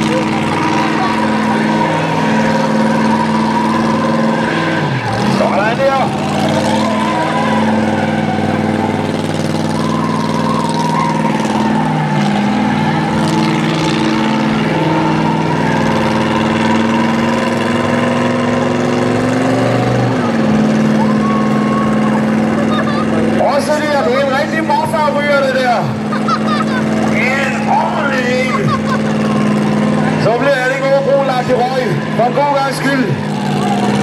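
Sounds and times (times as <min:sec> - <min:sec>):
engine revving high: 0:00.0 - 0:34.0
tyres spinning on tarmac: 0:00.0 - 0:34.0.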